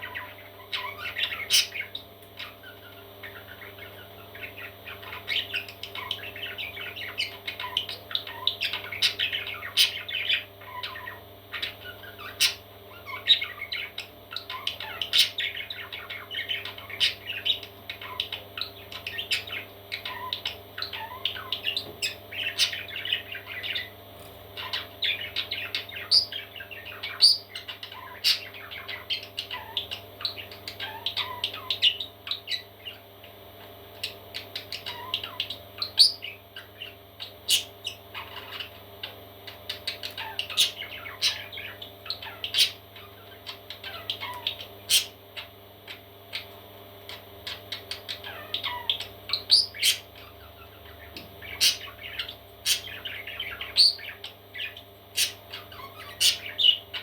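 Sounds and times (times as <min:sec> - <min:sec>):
parrot chicks chirping: 0:00.0 - 0:57.0.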